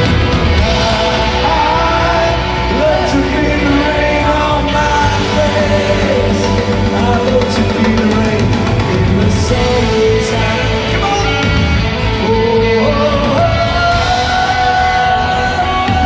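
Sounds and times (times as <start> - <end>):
bass guitar: 0.0 - 16.0
drums: 0.0 - 16.0
electric guitar sliding lead: 0.0 - 16.0.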